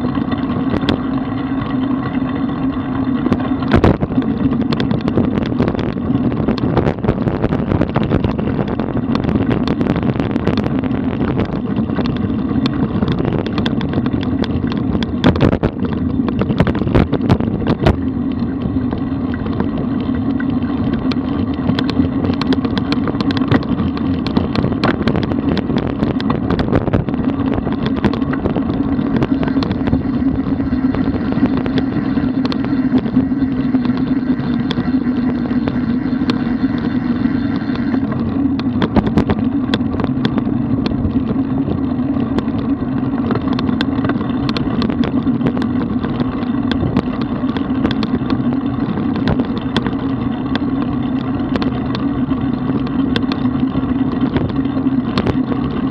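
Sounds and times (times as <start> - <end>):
bicycle tyre road rumble: 0.0 - 55.9
small clicks and knocks: 3.2 - 36.9, 37.5 - 55.9
wind rushing over microphone: 3.2 - 55.9.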